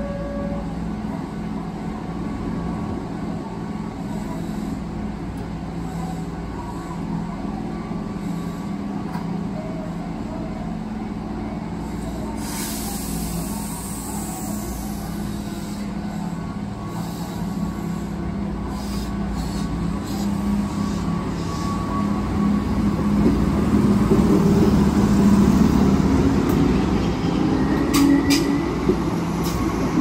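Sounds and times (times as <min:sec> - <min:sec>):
train equipment humming: 0:00.0 - 0:30.0.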